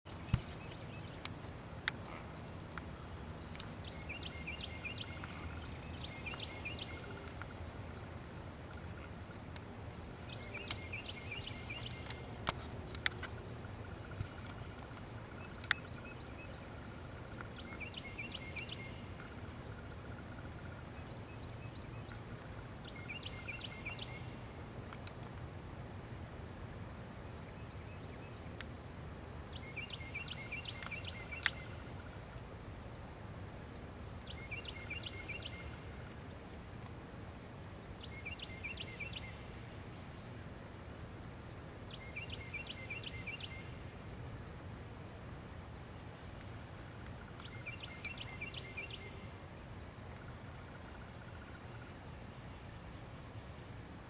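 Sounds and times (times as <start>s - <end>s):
songbird singing: 0.1s - 54.0s.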